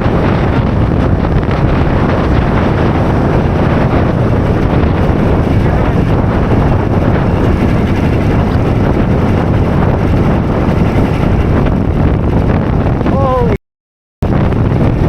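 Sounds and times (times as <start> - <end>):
snow machine engine running: 0.0 - 12.5
wind buffeting microphone: 0.0 - 13.6, 14.2 - 15.0.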